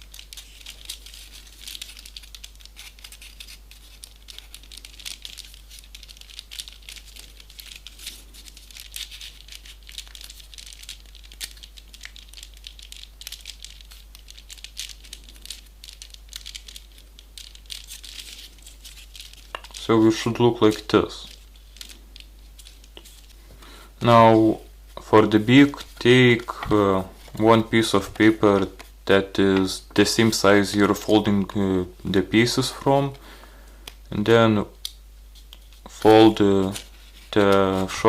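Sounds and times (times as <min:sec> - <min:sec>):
paper rustling and crinkling: 0:00.0 - 0:31.6, 0:35.3 - 0:38.0.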